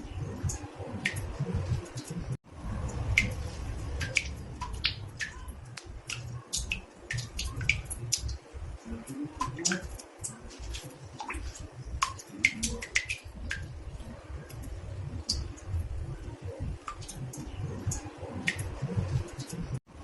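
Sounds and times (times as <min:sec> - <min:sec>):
water drops plinking in bathtub: 0:02.8 - 0:19.8.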